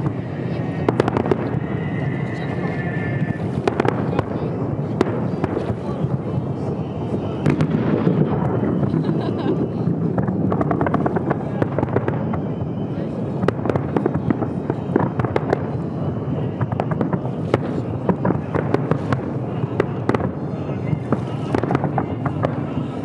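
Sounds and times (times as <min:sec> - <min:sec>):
fireworks crackling and popping: 0:00.0 - 0:23.0
sharp firework reports: 0:00.0 - 0:23.0.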